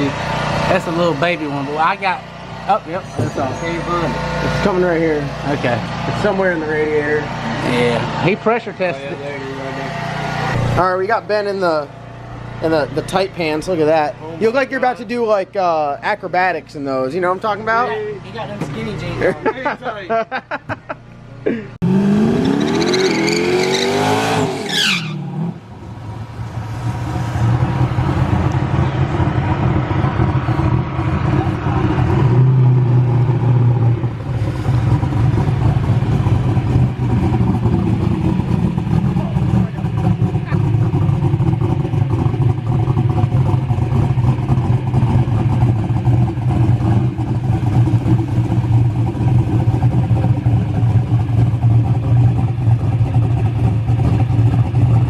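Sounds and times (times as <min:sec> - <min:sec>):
car engine revving: 0:00.0 - 0:19.3, 0:21.8 - 0:55.0.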